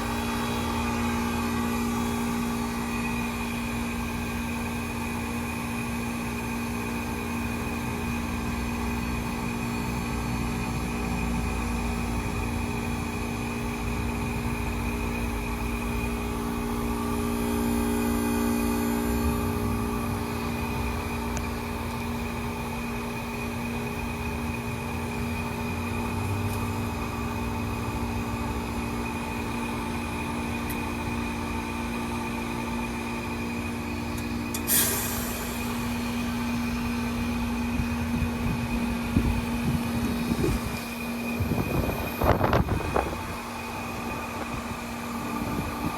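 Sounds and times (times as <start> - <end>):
compressor hum and whine: 0.0 - 45.9.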